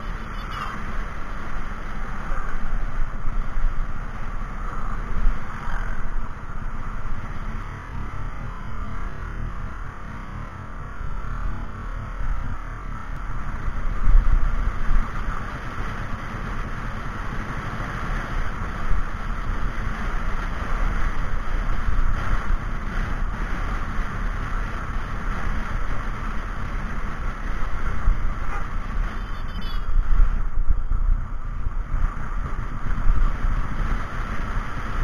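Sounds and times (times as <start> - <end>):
vehicle rumbling on road: 0.0 - 35.0.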